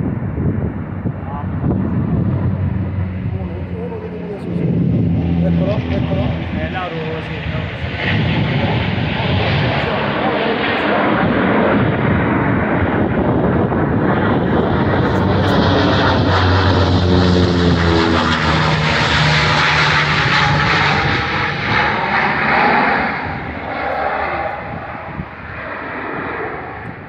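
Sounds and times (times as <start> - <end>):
propeller plane passing overhead: 0.0 - 27.0.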